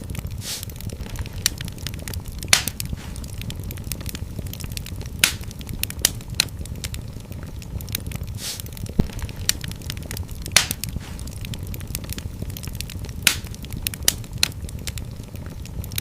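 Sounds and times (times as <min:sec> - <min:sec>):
fire crackling in a fireplace: 0:00.0 - 0:16.0
low rumble of flames: 0:00.0 - 0:16.0
sharp pops of fire: 0:00.0 - 0:16.0.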